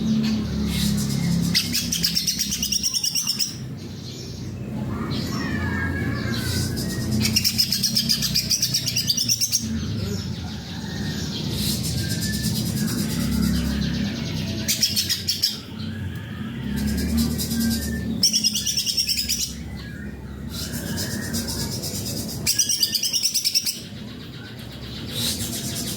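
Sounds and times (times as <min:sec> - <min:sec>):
bird singing trills and warbles: 0:00.0 - 0:25.9.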